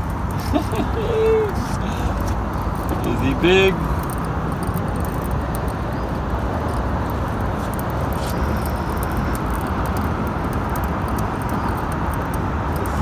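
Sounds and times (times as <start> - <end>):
rumbling background noise: 0.0 - 13.0.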